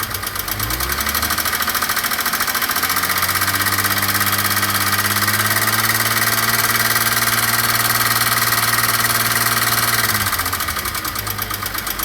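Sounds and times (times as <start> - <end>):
car engine idling with rattling tick: 0.0 - 12.0.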